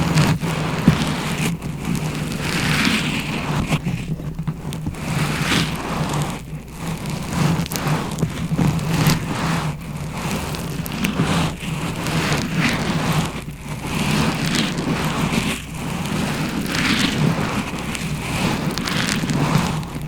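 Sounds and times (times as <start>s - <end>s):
close scratching and rustling: 0.0s - 20.0s.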